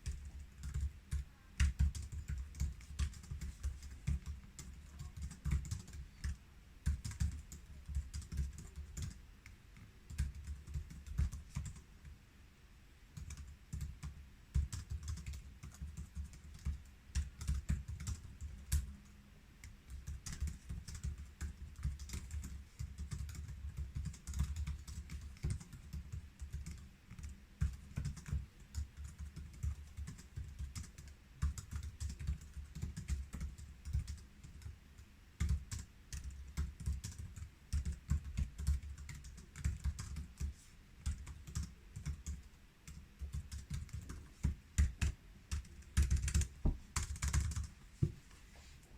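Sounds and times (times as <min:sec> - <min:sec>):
laptop keyboard typing: 0:00.0 - 0:11.8, 0:13.2 - 0:34.8, 0:35.4 - 0:47.8.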